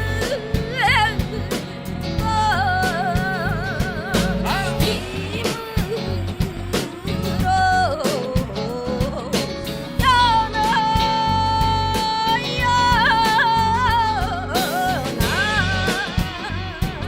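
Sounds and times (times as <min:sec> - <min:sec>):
person singing: 0:00.0 - 0:17.0
steady drum beat: 0:00.0 - 0:17.0.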